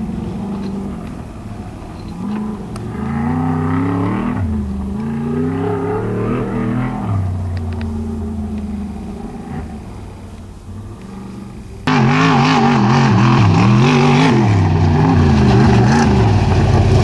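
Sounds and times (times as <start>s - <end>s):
race vehicle engine accelerating: 0.0s - 17.0s.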